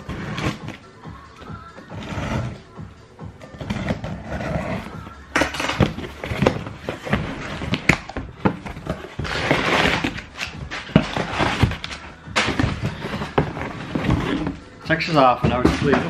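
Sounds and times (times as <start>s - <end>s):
cardboard box scraping and rustling: 0.0s - 0.8s, 1.8s - 2.6s, 3.6s - 5.0s, 5.7s - 16.0s.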